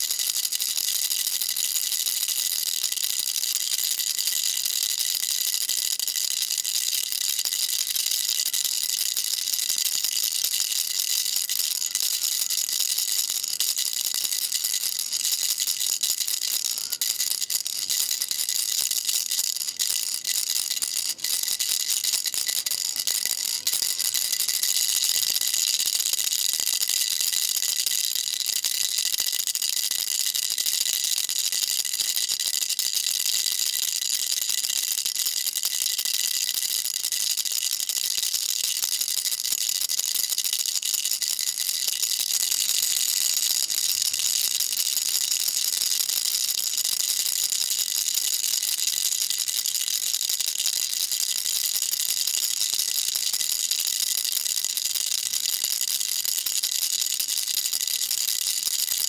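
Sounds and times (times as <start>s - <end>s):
baby rattle shaken: 0.1s - 29.2s, 38.3s - 59.0s.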